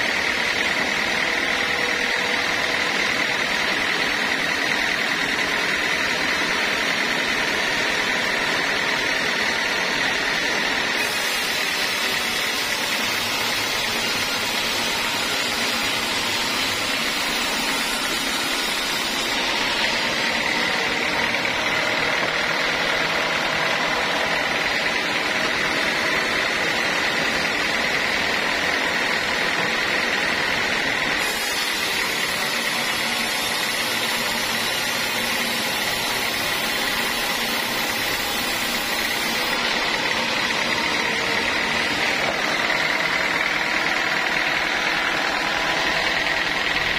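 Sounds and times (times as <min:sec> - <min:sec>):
band saw whining: 0:00.0 - 0:46.9.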